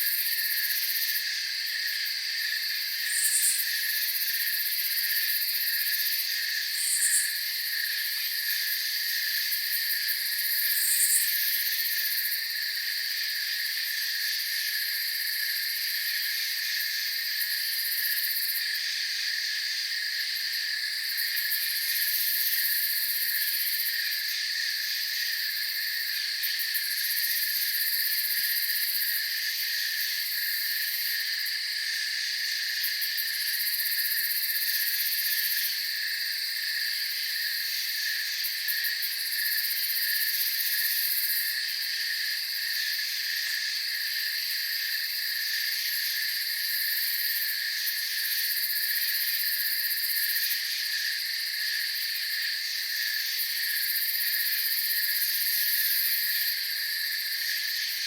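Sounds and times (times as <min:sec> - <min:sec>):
crickets and insects trilling: 0:00.0 - 0:58.0.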